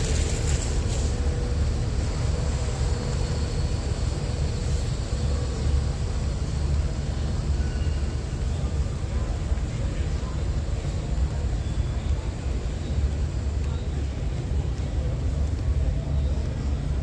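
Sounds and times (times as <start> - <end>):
hall background rumble: 0.0 - 17.0.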